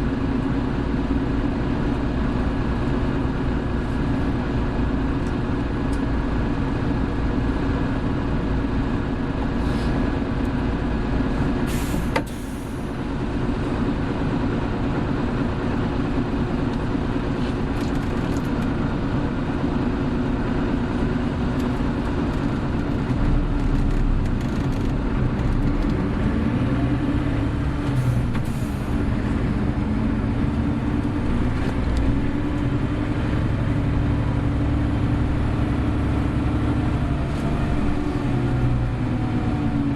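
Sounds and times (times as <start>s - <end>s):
bus diesel engine with whine: 0.0s - 39.9s.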